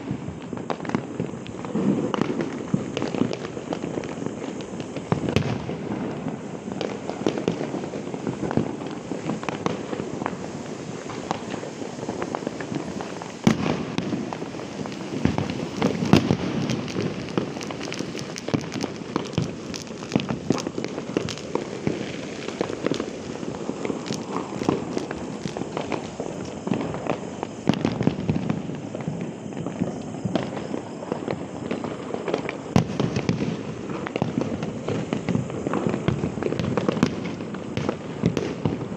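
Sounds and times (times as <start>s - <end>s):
firecrackers banging and crackling: 0.0s - 38.9s.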